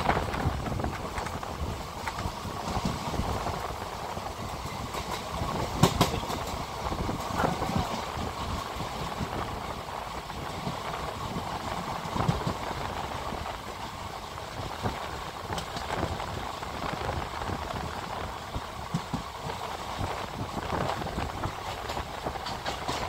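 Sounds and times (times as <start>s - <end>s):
train rumbling over rails: 0.0s - 23.0s
wheels clicking over rail joints: 0.0s - 23.0s.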